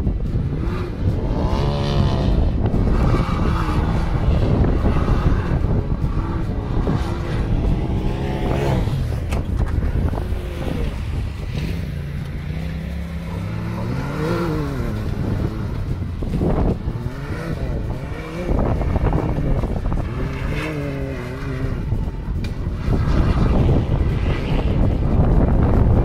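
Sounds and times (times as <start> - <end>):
wheels spinning through sand: 0.0 - 26.0
engine revving hard: 0.4 - 9.4, 10.1 - 22.0.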